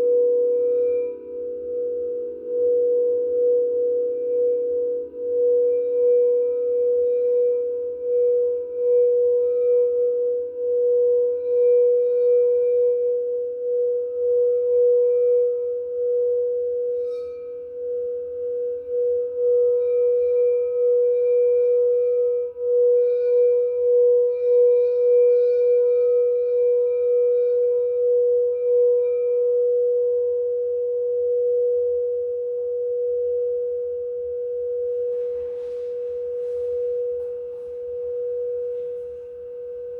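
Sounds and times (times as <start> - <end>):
singing bowl sustained tone: 0.0 - 39.9.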